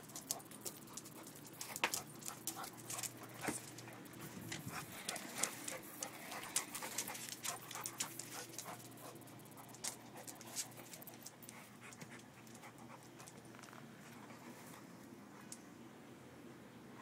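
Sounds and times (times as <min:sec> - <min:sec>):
dog panting: 0:00.0 - 0:14.9.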